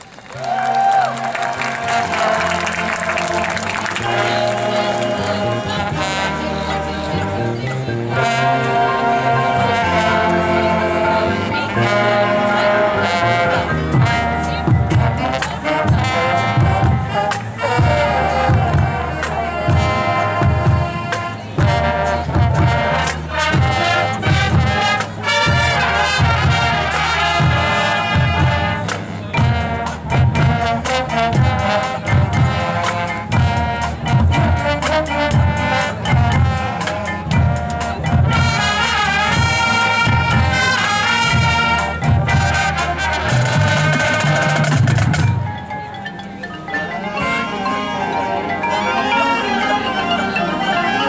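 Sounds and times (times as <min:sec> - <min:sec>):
marching band playing: 0:00.0 - 0:51.0.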